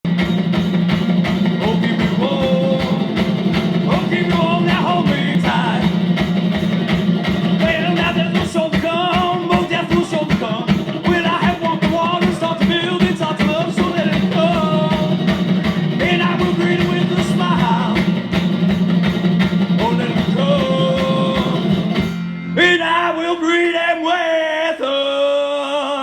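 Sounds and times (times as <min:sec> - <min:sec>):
live rock band playing: 0:00.0 - 0:22.8.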